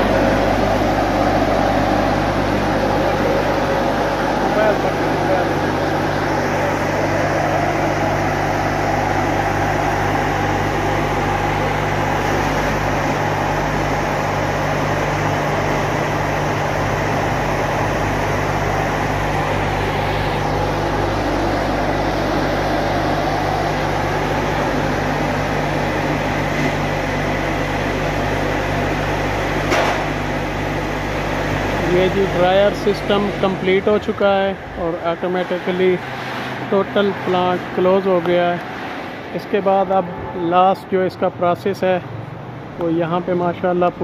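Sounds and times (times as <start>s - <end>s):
low hum: 0.0s - 39.3s
air dryer blowers: 0.0s - 40.4s.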